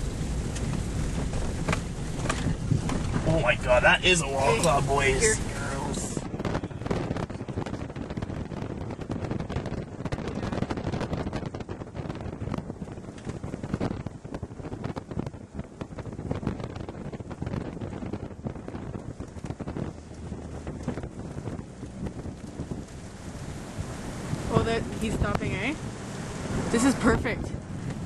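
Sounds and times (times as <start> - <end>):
gusty storm wind on microphone: 0.0 - 28.0
vehicle rumble: 0.0 - 28.0.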